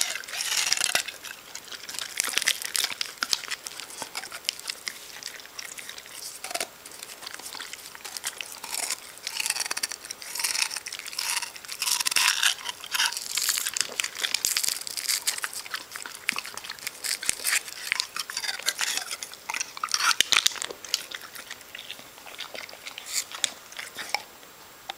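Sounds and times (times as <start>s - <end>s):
dog licking and biting ice: 0.0s - 24.3s.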